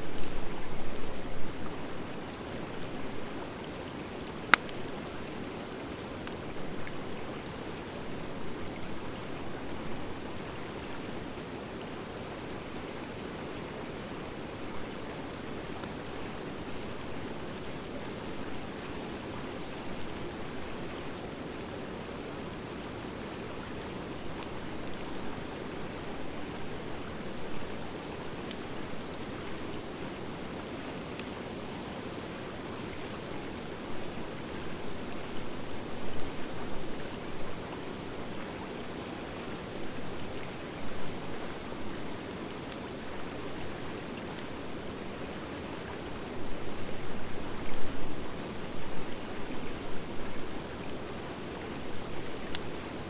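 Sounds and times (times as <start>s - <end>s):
fire crackling: 2.6s - 13.4s, 14.0s - 21.9s, 23.3s - 31.8s, 32.5s - 53.0s.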